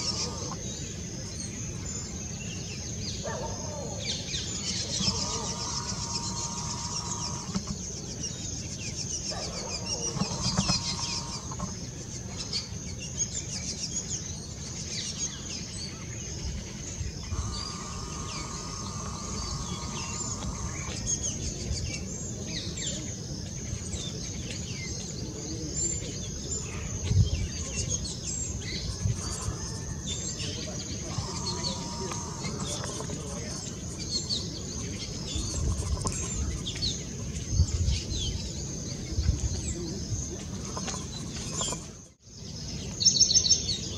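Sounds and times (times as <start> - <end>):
buzzy low bird calls: 0.0 - 2.2, 3.2 - 8.1, 8.7 - 12.8, 16.0 - 23.0, 25.3 - 42.2
birds chirping and twittering: 0.0 - 43.9.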